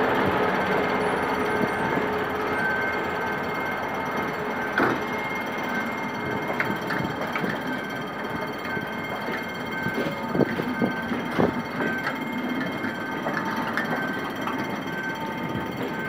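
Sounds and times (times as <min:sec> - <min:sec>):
train rumbling over rails: 0:00.0 - 0:16.0.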